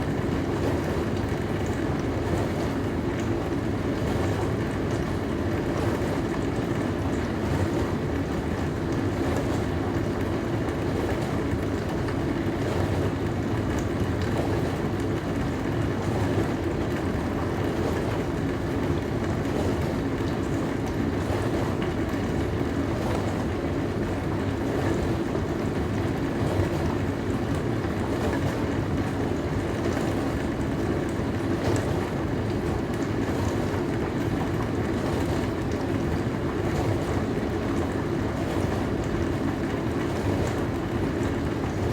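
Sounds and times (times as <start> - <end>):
dishwasher running: 0.0 - 41.9.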